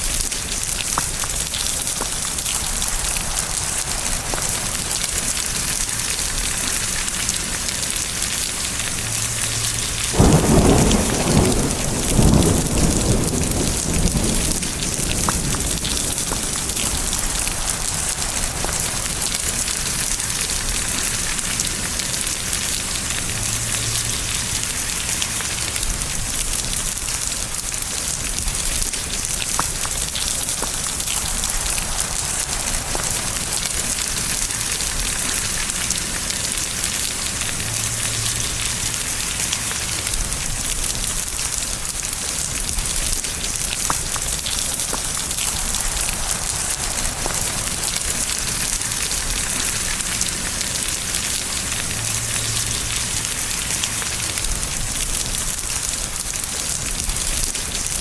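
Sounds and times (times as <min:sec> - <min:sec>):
steady rain falling: 0:00.0 - 0:58.0
thunder rumbling: 0:00.0 - 0:58.0.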